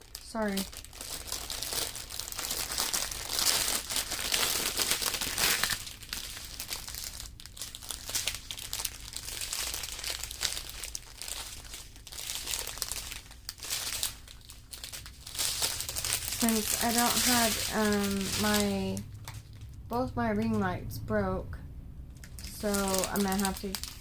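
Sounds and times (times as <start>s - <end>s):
plastic packaging crinkling: 0.0s - 19.8s, 22.2s - 24.0s.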